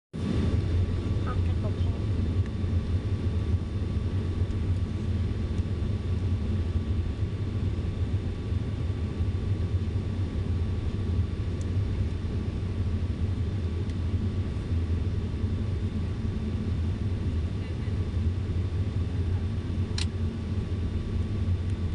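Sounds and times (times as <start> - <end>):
airliner engine drone: 0.2 - 21.9
faint steady whine: 0.2 - 21.9.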